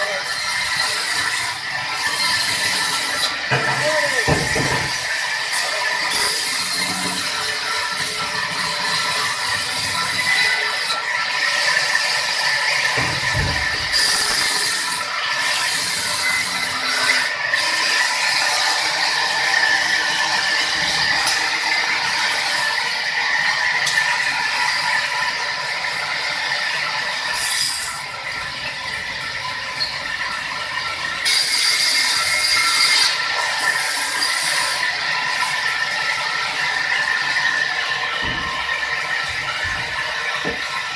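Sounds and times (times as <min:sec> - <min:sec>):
sawmill saw cutting timber: 0:00.0 - 0:40.9.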